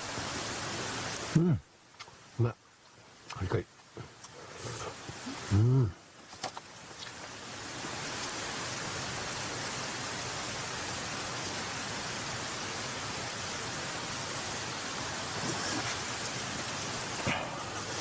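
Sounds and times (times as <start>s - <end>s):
skewers sizzling on a grill: 3.3s - 18.0s.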